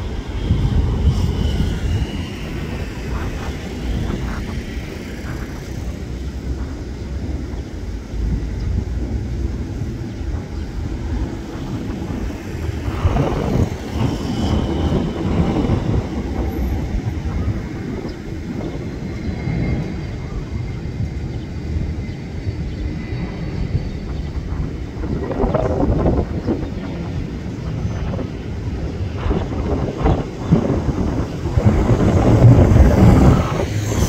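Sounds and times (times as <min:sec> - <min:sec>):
diesel locomotive rumbling: 0:00.0 - 0:34.0.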